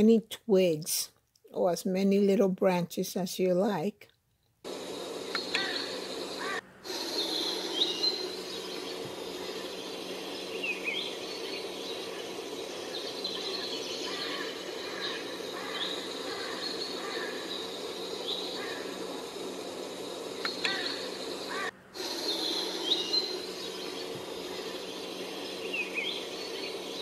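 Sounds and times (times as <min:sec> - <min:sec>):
steady background hum: 0:04.6 - 0:27.0
birds chirping: 0:04.7 - 0:27.0.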